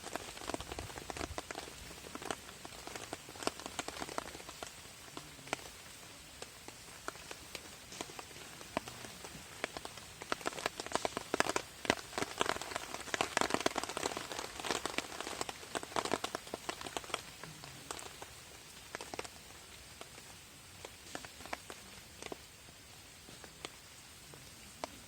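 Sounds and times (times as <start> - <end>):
raindrops pattering on a tarp: 0.0 - 25.0.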